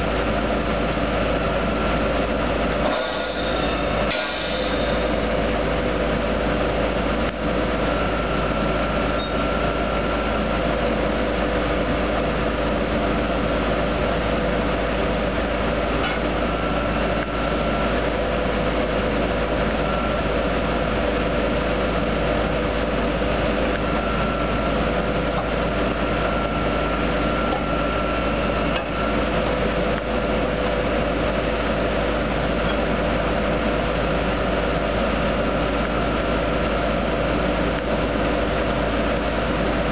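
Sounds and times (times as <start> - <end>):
drill rig mechanical drone: 0.0 - 39.9.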